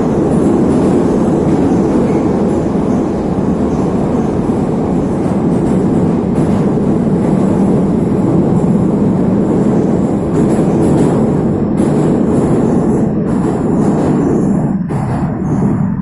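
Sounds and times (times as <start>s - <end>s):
metro train rumbling in tunnel: 0.0s - 16.0s.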